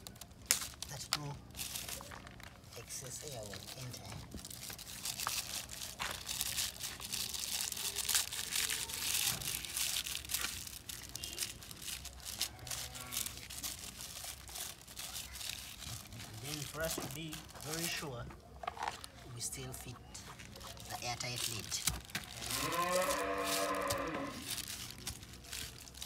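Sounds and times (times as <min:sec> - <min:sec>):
plastic sheet crinkling: 0:00.0 - 0:26.0.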